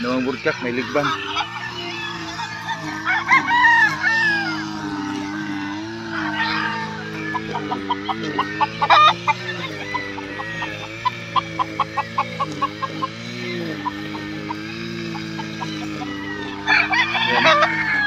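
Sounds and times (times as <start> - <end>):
chickens clucking: 0.0 - 18.0
grass cutter engine droning: 0.0 - 18.0.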